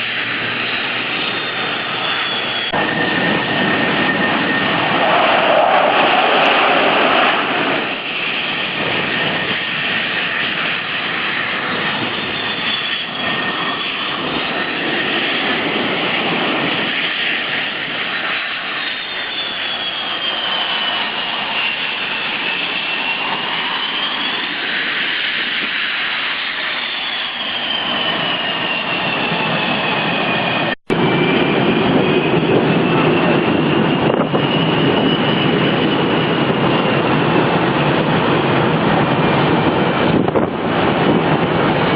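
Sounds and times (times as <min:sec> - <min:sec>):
jet engines whining and rushing: 0:00.0 - 0:41.9.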